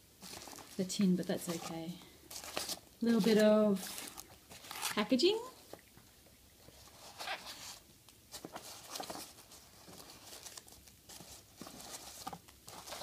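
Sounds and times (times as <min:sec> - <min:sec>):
packaging rustling and crinkling: 0:00.2 - 0:05.1, 0:06.7 - 0:13.0.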